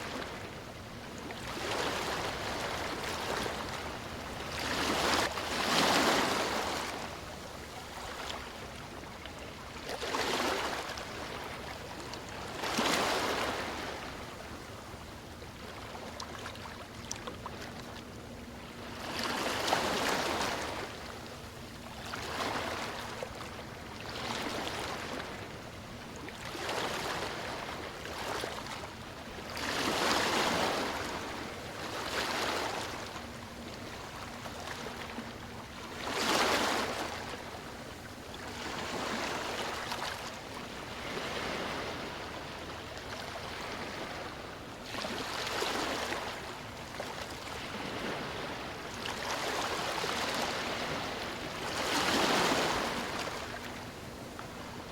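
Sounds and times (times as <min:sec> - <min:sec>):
sea waves breaking on a beach: 0:00.0 - 0:54.9.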